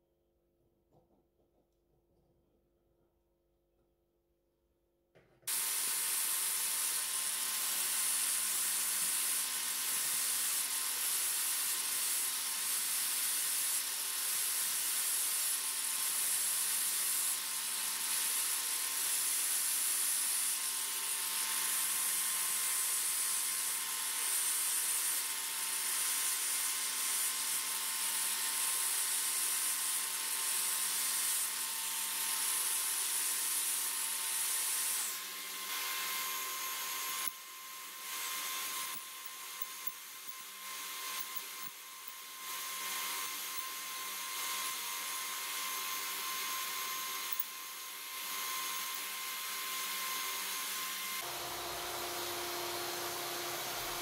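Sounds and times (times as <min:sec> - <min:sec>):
sanding hiss: 0:05.5 - 0:54.0.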